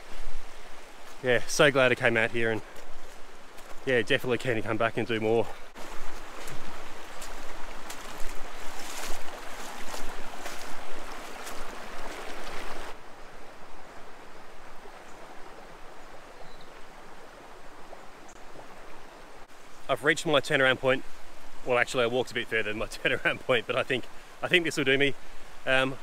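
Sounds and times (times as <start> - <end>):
river water running over rocks: 0.0 - 26.0.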